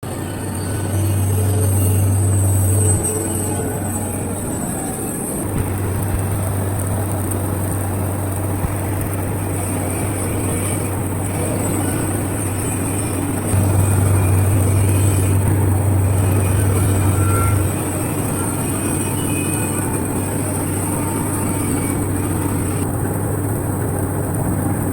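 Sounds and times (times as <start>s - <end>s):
welding machine humming: 0.0s - 24.9s.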